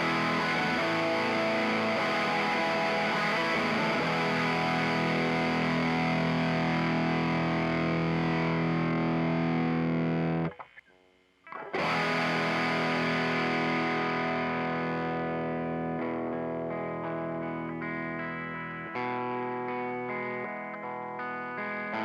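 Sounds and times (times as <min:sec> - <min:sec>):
distorted electric guitar chord: 0:00.0 - 0:10.6, 0:11.5 - 0:22.0.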